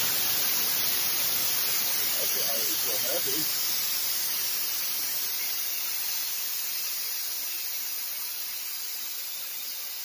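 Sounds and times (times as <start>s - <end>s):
compressed air hissing: 0.0s - 10.0s.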